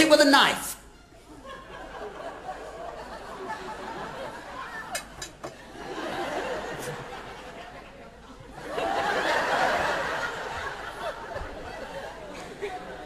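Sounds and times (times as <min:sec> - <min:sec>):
audience laughing: 0:01.2 - 0:13.0.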